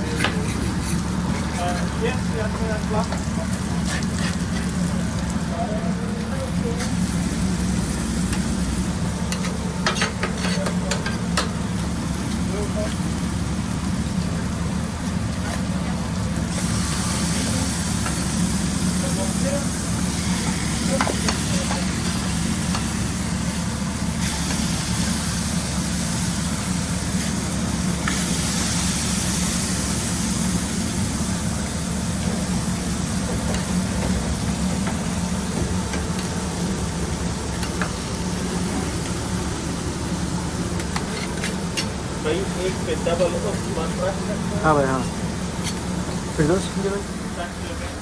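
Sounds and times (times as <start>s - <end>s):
food sizzling on a griddle: 0.0s - 48.0s.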